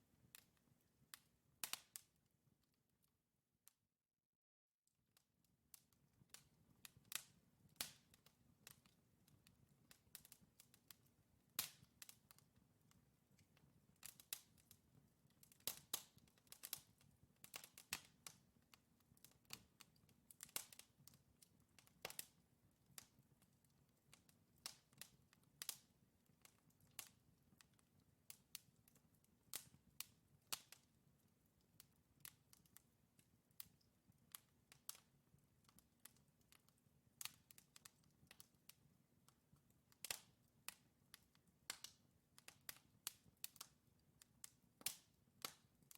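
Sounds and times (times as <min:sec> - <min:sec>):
logs crackling in a fireplace: 0:00.0 - 0:02.9, 0:05.2 - 0:45.9.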